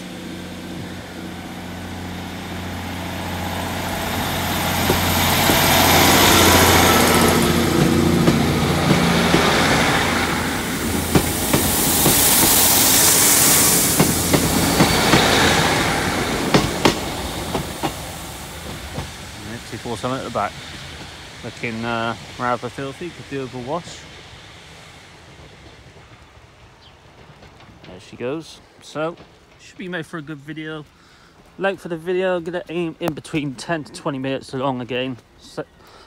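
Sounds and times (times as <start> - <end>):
train rushing past: 0.0 - 34.8
diesel train engine drone: 0.0 - 36.0.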